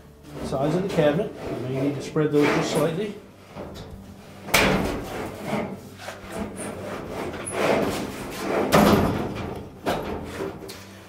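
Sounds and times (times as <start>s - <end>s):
metal drum scraping sheet metal: 0.2s - 10.7s.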